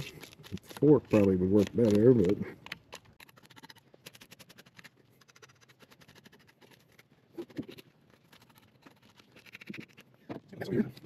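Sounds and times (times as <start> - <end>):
knife scraping fish scales: 0.0 - 10.1.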